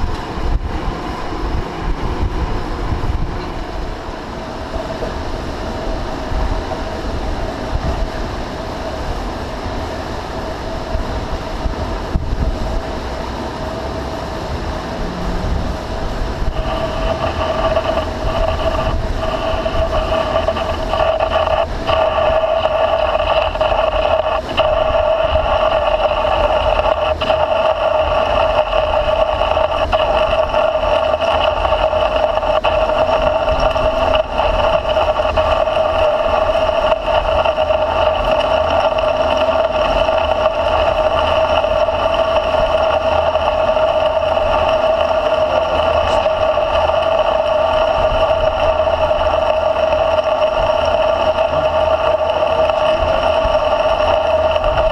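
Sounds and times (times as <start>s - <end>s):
lathe cutting metal whine: 0.0s - 54.9s.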